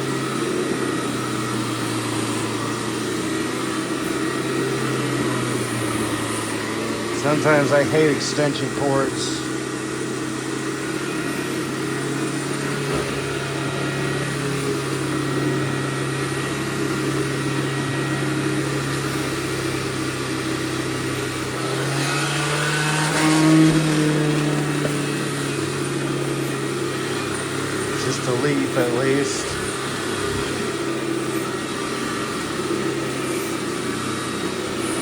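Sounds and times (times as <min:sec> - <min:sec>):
backpack vacuum running: 0:00.0 - 0:35.0.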